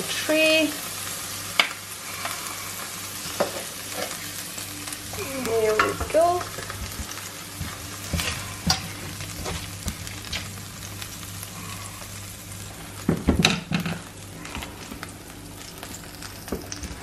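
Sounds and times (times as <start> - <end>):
chicken sizzling in frying pan: 0.0 - 17.0.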